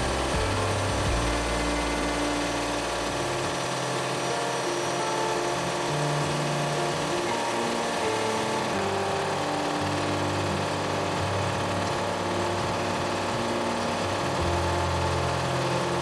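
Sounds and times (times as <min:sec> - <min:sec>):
held synth chords: 0:00.0 - 0:16.0
steady low hum: 0:00.0 - 0:16.0.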